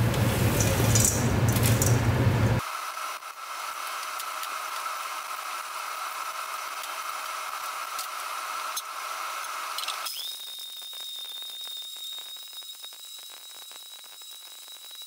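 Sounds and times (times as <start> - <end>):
blender running: 2.6 - 15.0.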